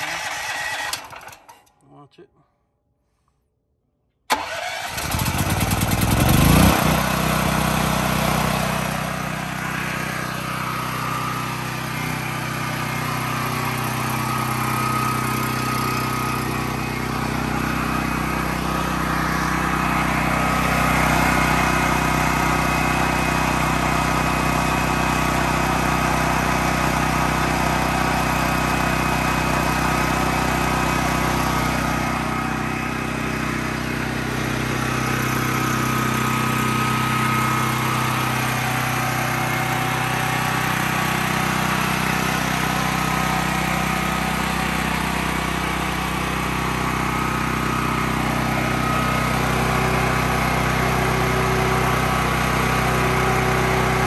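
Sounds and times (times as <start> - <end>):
generator engine starting and running: 0.0 - 2.3, 2.9 - 54.0.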